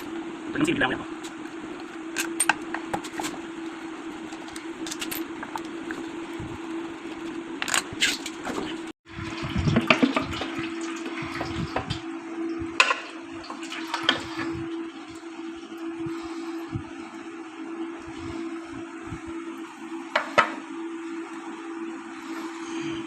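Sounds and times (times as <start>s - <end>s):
steady hum and hiss: 0.0s - 23.0s.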